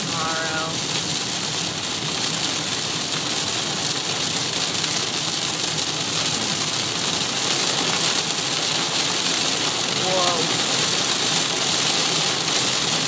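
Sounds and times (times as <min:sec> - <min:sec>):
rain on car roof: 0:00.0 - 0:13.0
tyres on flooded road: 0:00.0 - 0:13.0.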